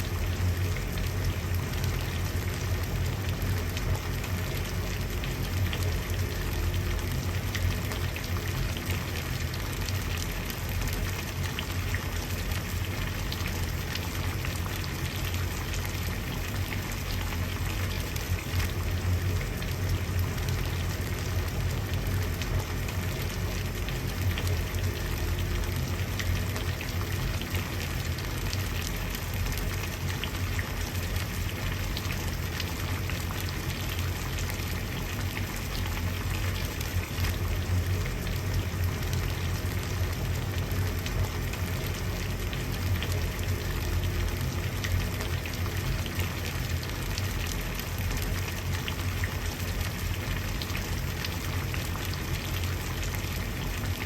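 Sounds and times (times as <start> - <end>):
water boiling and bubbling: 0.0 - 54.0.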